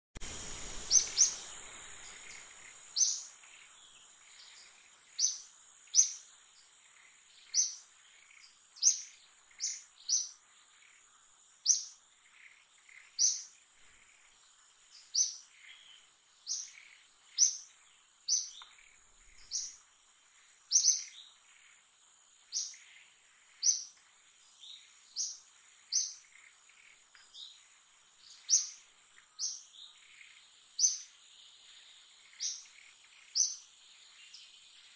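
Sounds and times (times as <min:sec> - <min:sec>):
insect drone: 0:00.2 - 0:34.9.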